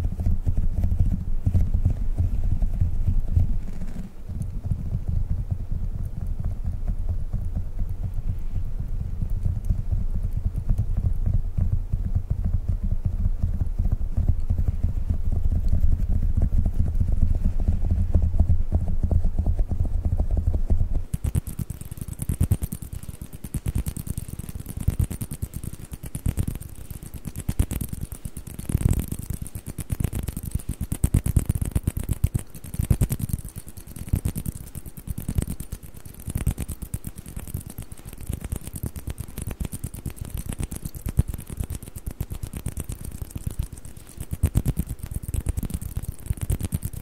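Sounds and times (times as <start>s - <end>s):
fingertips tapping squishy balls: 0.0s - 47.0s.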